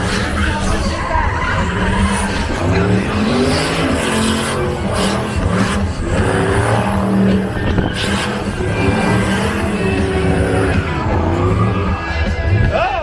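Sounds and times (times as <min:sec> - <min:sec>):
car engine revving hard: 0:00.0 - 0:12.2
tyres squealing: 0:00.0 - 0:12.3.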